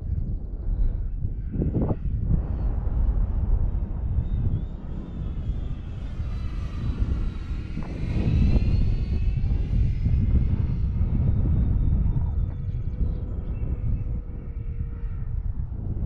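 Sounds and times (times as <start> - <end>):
model jet engine whine: 0.0 - 16.0
wind buffeting microphone: 0.0 - 16.0.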